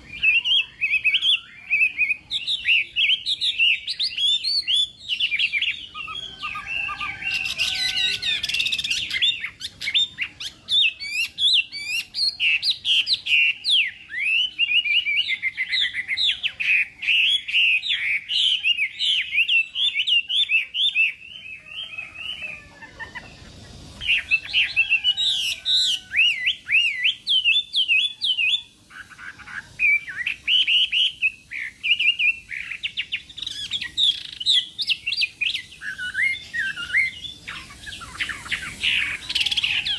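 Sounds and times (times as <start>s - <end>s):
songbird whistling song: 0.0s - 39.9s.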